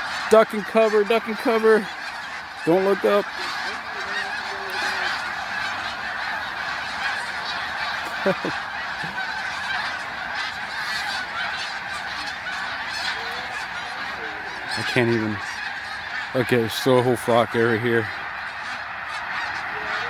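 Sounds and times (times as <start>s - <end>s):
flock of geese honking: 0.0s - 20.0s.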